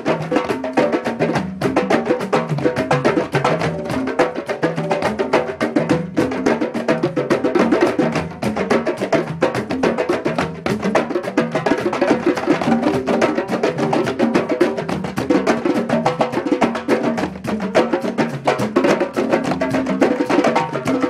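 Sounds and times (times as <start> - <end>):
congas drumming fast rhythm: 0.0 - 21.0.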